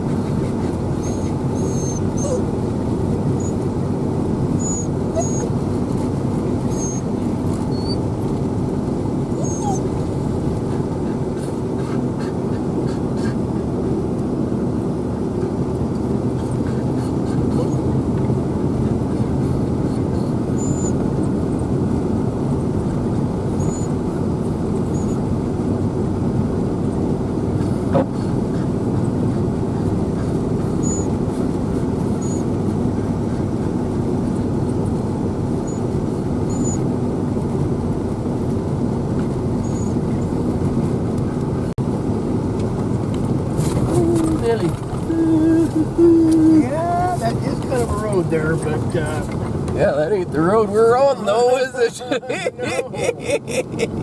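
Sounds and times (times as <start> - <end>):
vehicle engine and road drone: 0.0 - 54.0.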